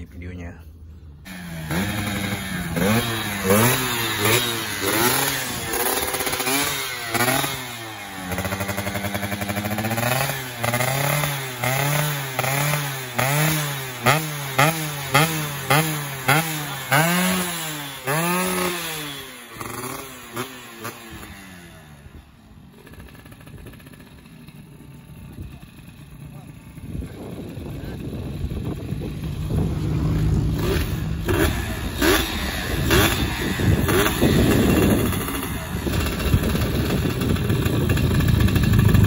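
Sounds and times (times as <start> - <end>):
two-stroke engine revving: 1.2 - 39.0.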